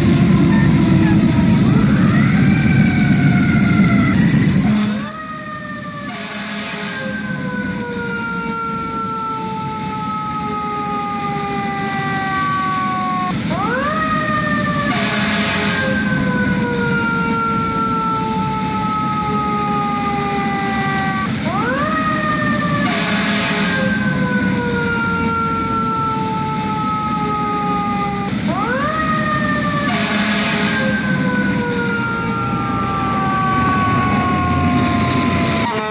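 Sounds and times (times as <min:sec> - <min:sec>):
fire engine siren wailing: 0:00.0 - 0:35.9.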